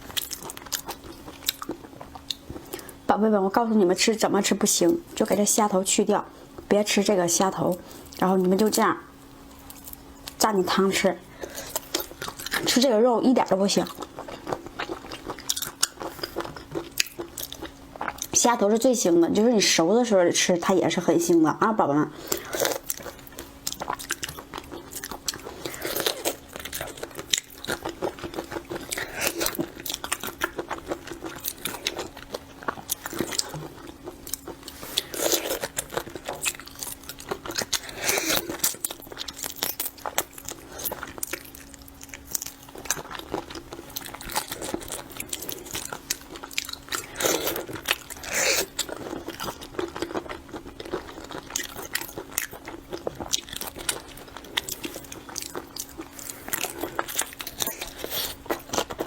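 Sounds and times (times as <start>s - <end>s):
wet chewing and crunching: 0.0s - 3.1s, 9.5s - 19.5s, 22.2s - 59.0s
faint hum: 0.0s - 59.0s.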